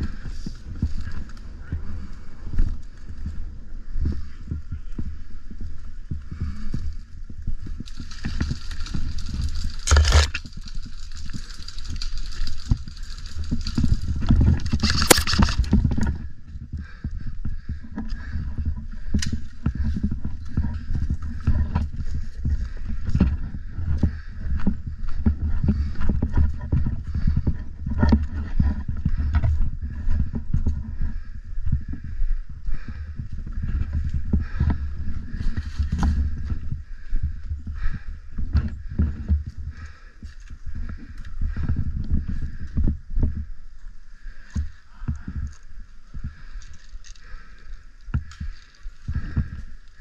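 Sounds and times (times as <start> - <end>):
wind rumble on microphone: 0.0 - 50.0.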